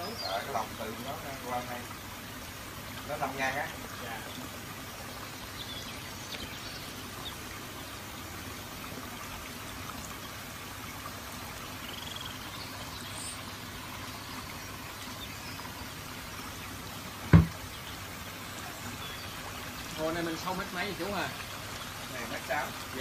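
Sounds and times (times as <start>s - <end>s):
waterfall trickling and splashing: 0.0s - 23.0s.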